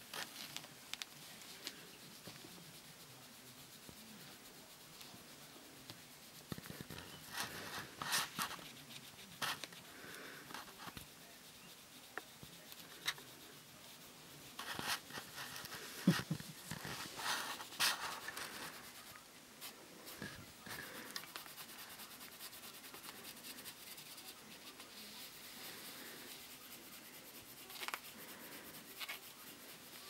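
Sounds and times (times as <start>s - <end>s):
kitten scratching on cloth: 0.0s - 30.0s.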